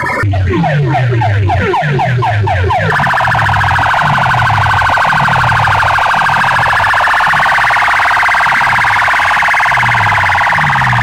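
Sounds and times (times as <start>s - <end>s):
electronic siren sweeps: 0.0s - 11.0s
warbling alarm tone: 0.0s - 11.0s.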